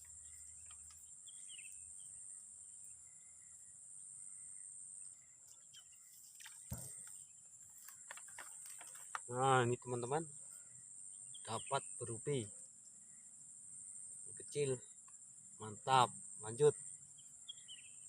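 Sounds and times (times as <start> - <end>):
faint bird chirps: 0.0 - 18.0
insects chirring: 0.0 - 18.0.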